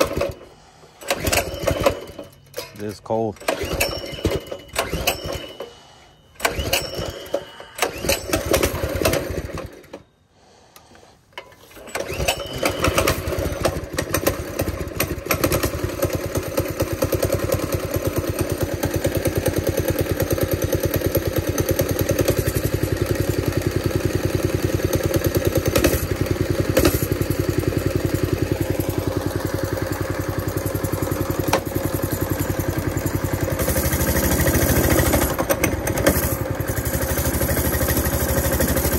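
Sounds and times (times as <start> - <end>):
small engine starting and running: 0.0 - 38.9.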